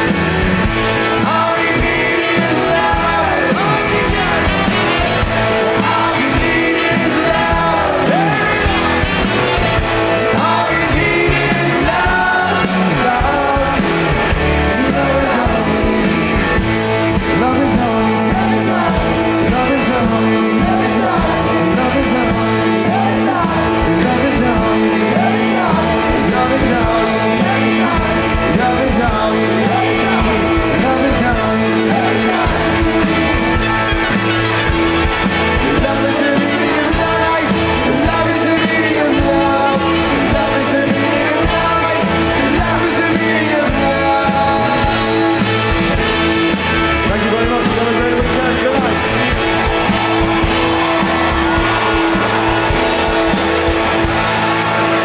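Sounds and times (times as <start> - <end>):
live rock band playing: 0.0 - 55.0
person singing: 0.0 - 55.0.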